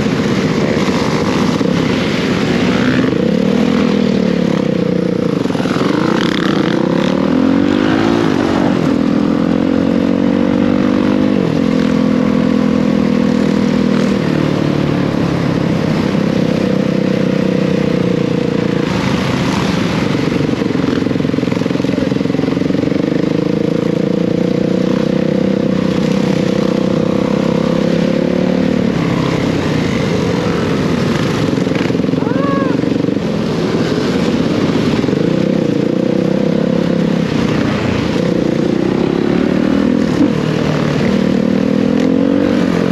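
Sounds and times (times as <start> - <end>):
dirt bike engine revving: 0.0 - 12.7, 16.9 - 42.9.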